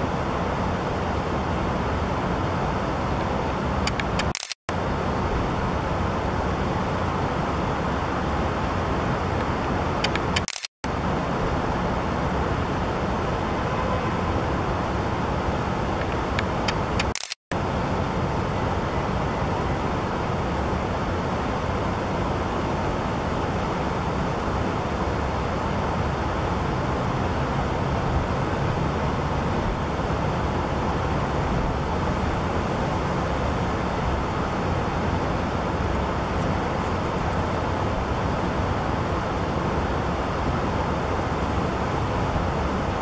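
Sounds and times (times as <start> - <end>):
outdoor hiss and rumble: 0.0 - 43.0.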